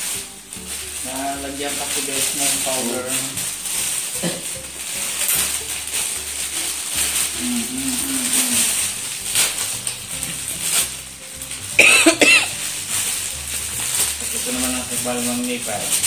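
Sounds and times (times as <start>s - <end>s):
plastic bag rustling: 0.0s - 16.0s.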